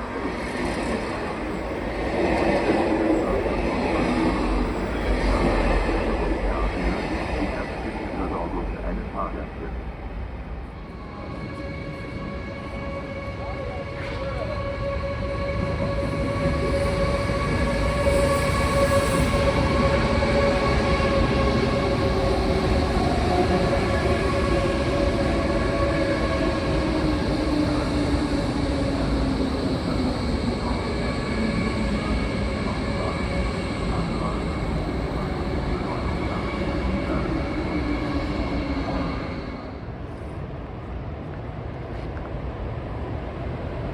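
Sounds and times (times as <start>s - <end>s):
train rumbling on rails: 0.0s - 43.9s.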